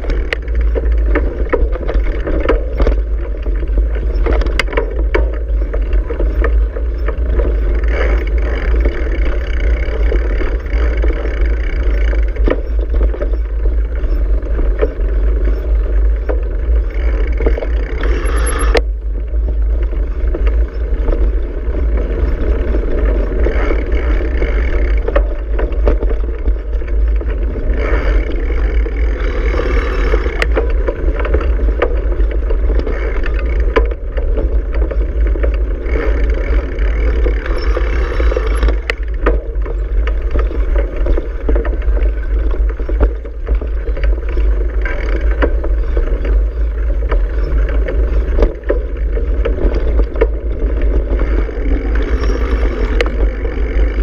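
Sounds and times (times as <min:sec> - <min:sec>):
bicycle knocks and rattles: 0:00.0 - 0:54.0
wind and road rumble on microphone: 0:00.0 - 0:54.0.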